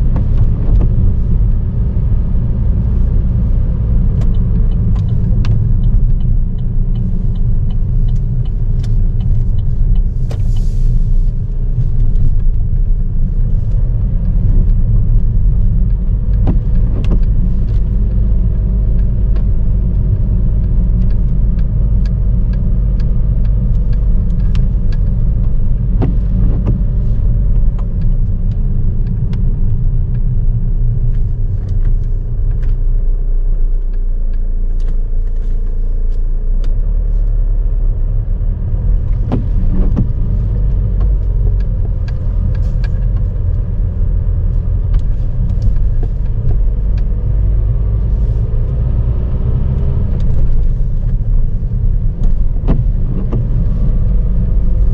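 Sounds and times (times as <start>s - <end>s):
raindrops tapping on car: 0.0s - 32.8s, 38.7s - 54.9s
road and engine rumble: 0.0s - 54.9s.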